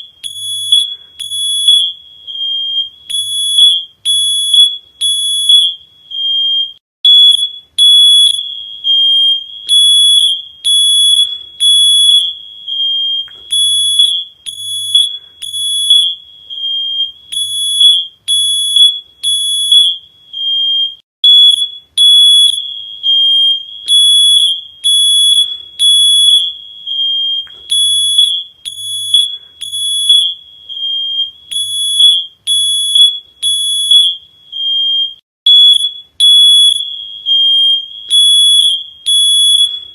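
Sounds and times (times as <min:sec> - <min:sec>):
electronic alarm beeping: 0:00.0 - 0:39.9.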